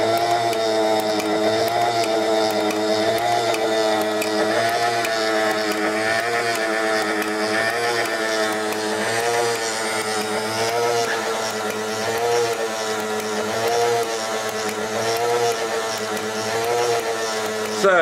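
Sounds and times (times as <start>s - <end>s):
model engine motor whine: 0.0s - 18.0s.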